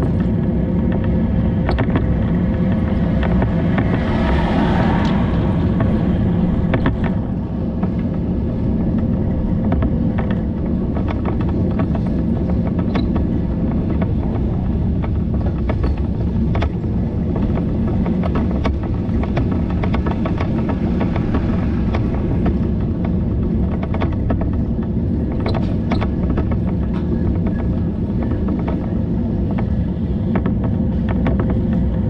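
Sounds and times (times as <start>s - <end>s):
bicycle tyre noise: 0.0s - 32.0s
light clicks and rattles: 0.0s - 32.0s
wind on microphone: 0.0s - 32.0s.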